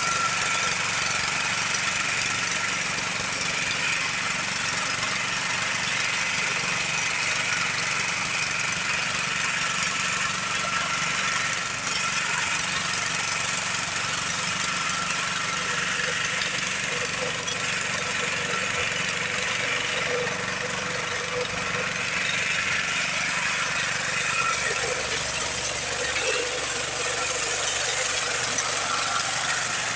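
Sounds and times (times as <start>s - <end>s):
small engine running: 0.0s - 29.9s.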